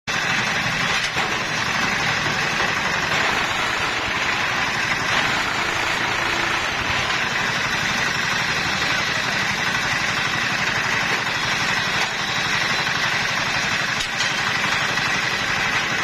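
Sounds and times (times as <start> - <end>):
brick-moulding machine clattering: 0.2 - 16.0.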